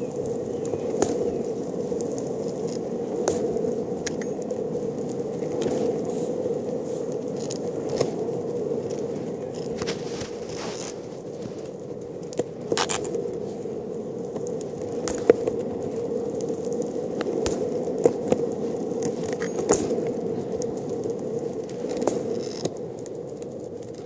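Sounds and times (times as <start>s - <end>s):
skateboard wheels rolling on asphalt: 0.0s - 24.0s.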